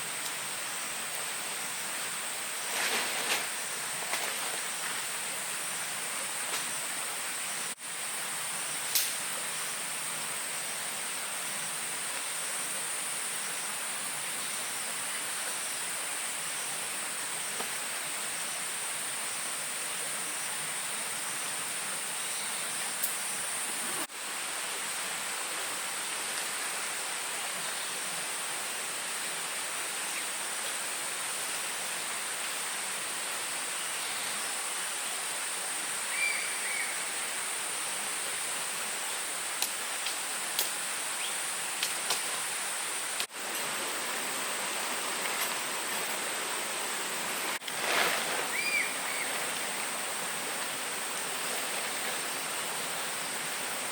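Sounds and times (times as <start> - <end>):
forest rushing hiss: 0.0 - 53.9.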